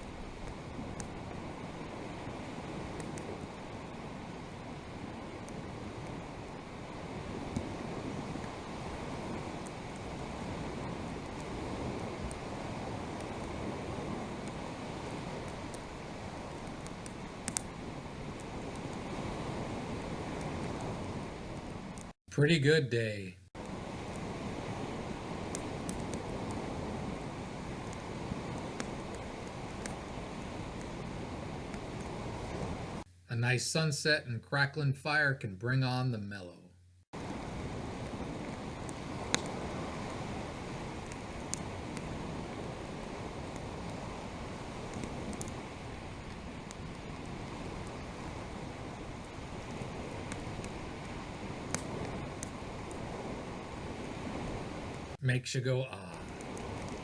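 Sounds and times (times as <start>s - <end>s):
campfire crackling and popping: 0.0s - 33.9s, 35.9s - 57.0s
waves on shore: 0.0s - 33.9s, 37.2s - 57.0s
wind: 0.0s - 57.0s.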